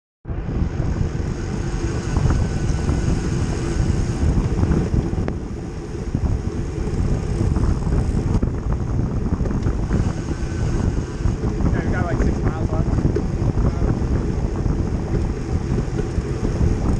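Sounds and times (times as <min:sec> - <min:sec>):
tyres on asphalt: 0:00.3 - 0:16.9
wind buffeting microphone: 0:00.3 - 0:16.9.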